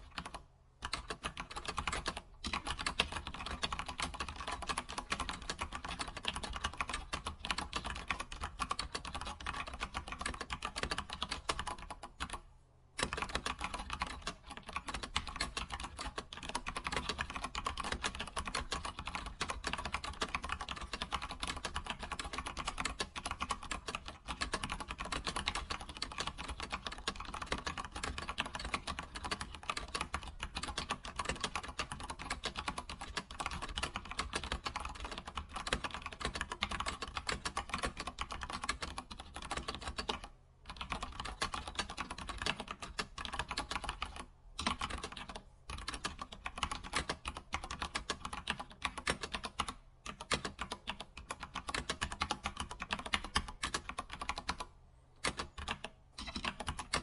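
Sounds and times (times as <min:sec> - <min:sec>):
computer keyboard typing: 0:00.0 - 0:12.4, 0:13.0 - 0:57.0.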